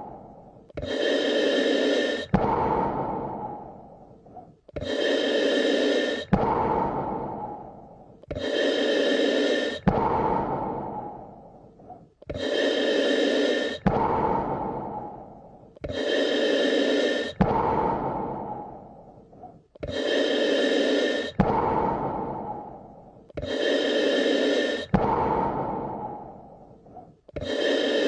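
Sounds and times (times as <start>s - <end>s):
person breathing slowly: 0.0s - 28.0s.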